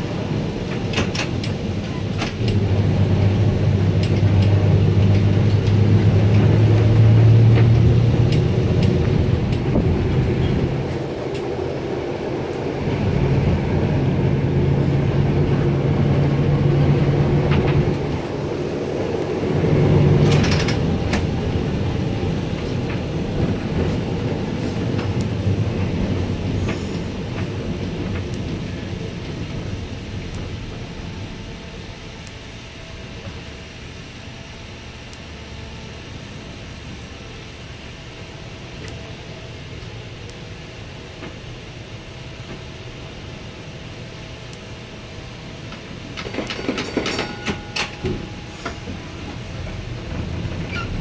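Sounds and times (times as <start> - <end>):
streetcar clatter: 0.0 - 51.0
streetcar motor hum: 0.0 - 51.0.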